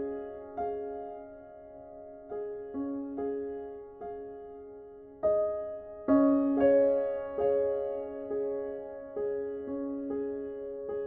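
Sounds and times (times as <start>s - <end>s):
soft solo piano chords: 0.0s - 11.0s.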